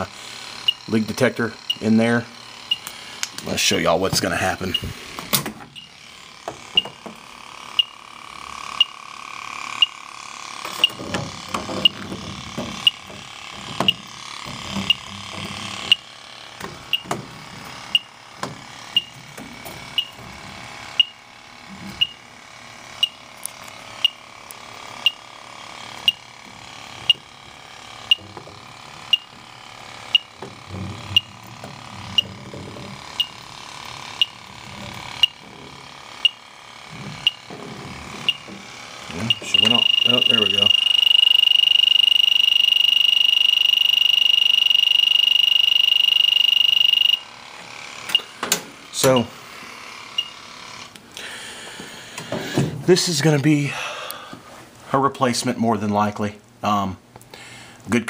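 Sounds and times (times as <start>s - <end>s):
leak detector ticking: 0.0s - 37.5s, 38.1s - 48.4s, 49.0s - 49.4s, 50.1s - 51.0s.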